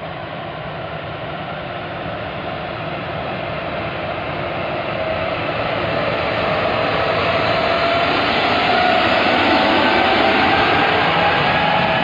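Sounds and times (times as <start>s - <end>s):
rail machine engine and wheels: 0.0s - 12.0s.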